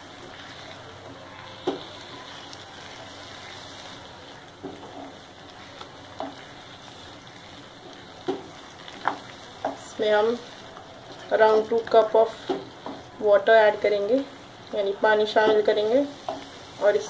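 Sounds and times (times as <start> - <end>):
paste sizzling in oil: 0.0 - 17.0.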